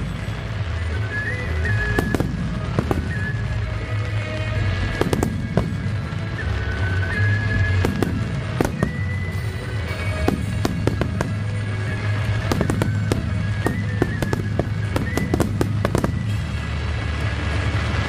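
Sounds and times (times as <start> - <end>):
fireworks bursts and crackling: 0.0 - 18.0
low rumble: 0.0 - 18.0
music playing: 0.0 - 18.0.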